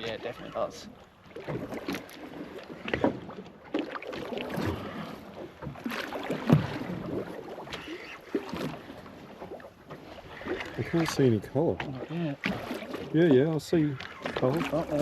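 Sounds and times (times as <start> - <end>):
boat hull and water noise: 0.0 - 15.0.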